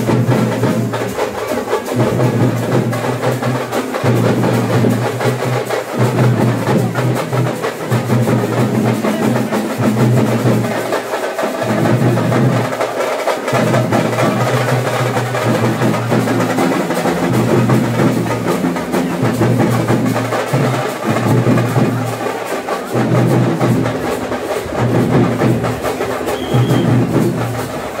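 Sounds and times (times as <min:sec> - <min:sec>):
drums beating fast rhythm: 0:00.0 - 0:28.0.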